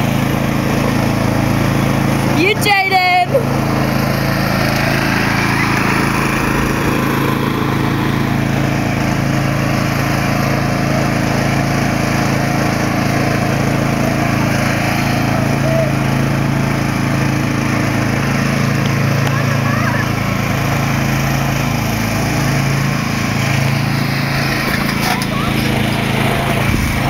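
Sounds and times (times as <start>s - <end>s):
ride-on lawn mower engine: 0.0s - 27.0s.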